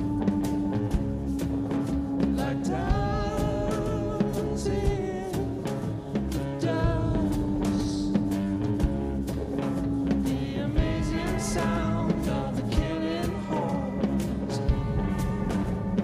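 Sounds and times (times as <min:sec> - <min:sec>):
person singing: 0:00.0 - 0:08.8, 0:10.1 - 0:16.0.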